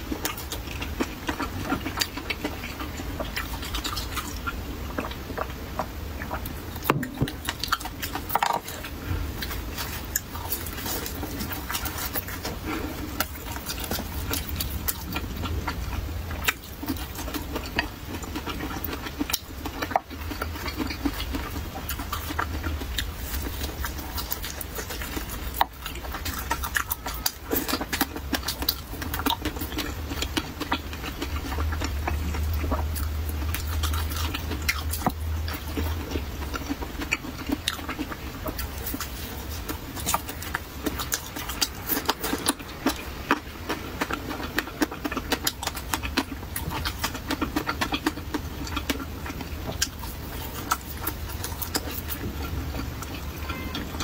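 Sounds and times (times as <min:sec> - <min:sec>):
chewing mouth clicks and smacks: 0:00.0 - 0:54.0.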